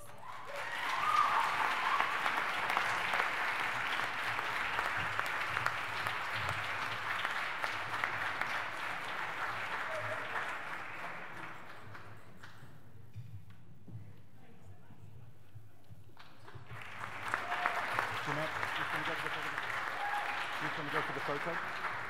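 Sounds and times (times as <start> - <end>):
audience applauding: 0.0 - 12.2, 16.5 - 22.0.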